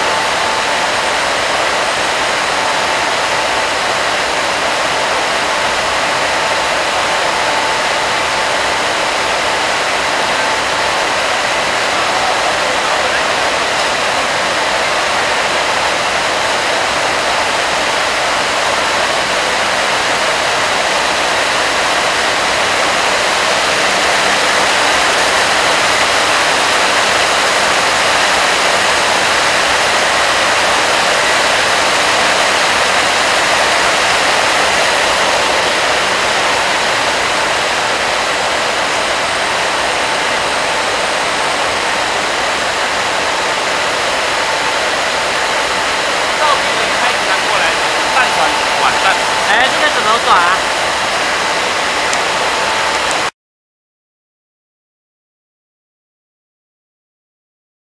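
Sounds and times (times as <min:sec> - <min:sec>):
faint machine whines: 0:00.0 - 0:53.3.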